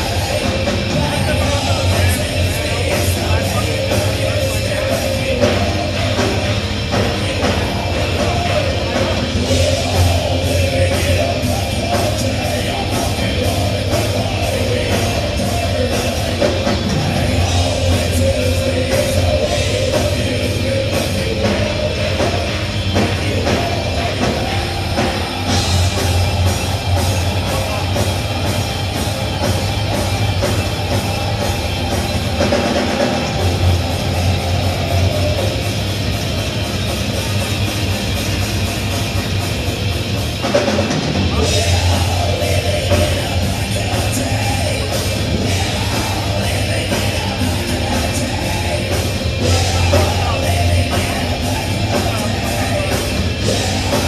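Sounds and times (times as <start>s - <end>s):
person singing: 0.0s - 37.4s, 40.4s - 54.0s
bass: 0.0s - 54.0s
distorted electric guitars: 0.0s - 54.0s
pounding drum kit: 0.0s - 54.0s.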